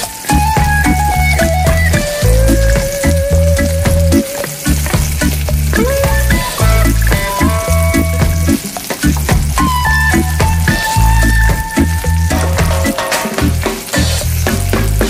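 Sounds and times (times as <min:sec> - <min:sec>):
background music with bass: 0:00.0 - 0:15.0
vegetables frying in oil: 0:00.0 - 0:15.0.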